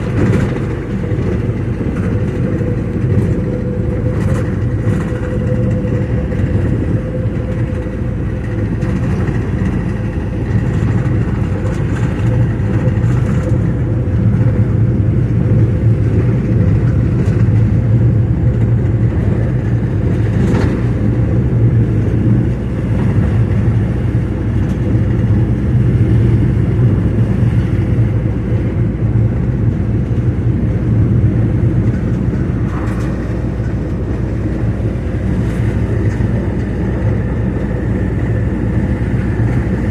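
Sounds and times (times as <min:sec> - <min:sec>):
vehicle driving rumble: 0:00.0 - 0:39.9.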